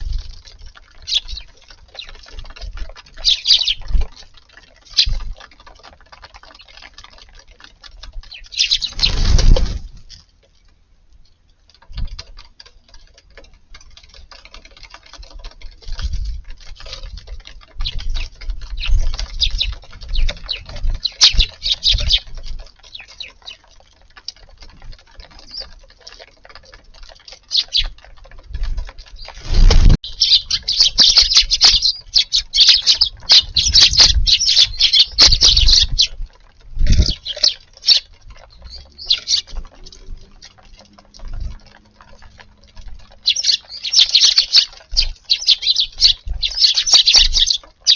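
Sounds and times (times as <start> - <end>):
sparrows chirping: 0.0 - 7.3, 7.9 - 9.4, 15.9 - 28.3, 28.9 - 47.9
light ticks and patters: 0.0 - 47.9.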